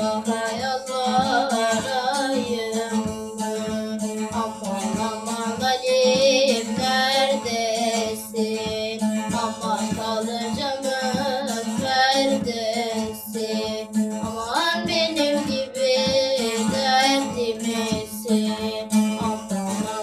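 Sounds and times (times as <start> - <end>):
child singing: 0.0 - 20.0
strummed long-necked lute: 0.0 - 20.0.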